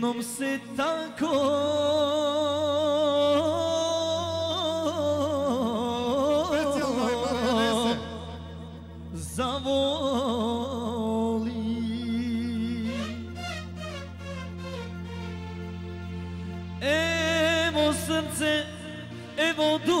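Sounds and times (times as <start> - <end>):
man singing through microphone: 0.0 - 13.7, 16.8 - 20.0.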